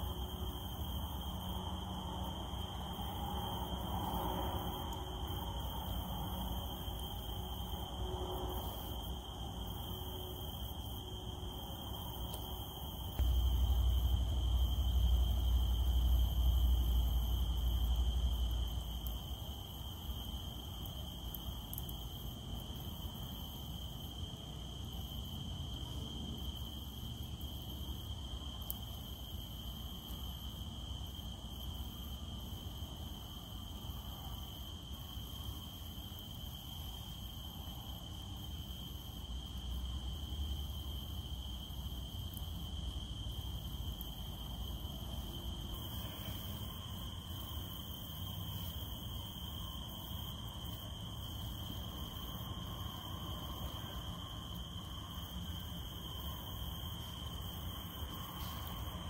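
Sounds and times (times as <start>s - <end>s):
cicadas droning: 0.0s - 59.0s
faint hiss: 0.0s - 59.0s.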